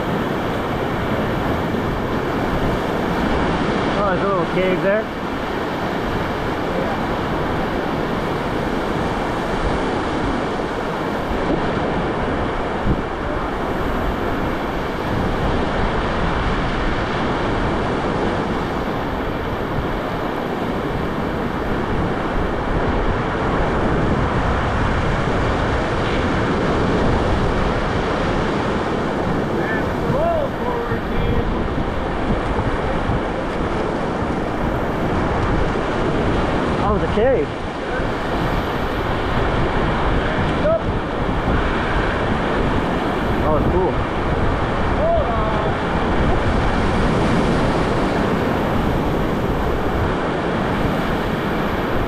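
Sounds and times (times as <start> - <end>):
river water rushing: 0.0 - 52.0
wind buffeting microphone: 0.0 - 52.0.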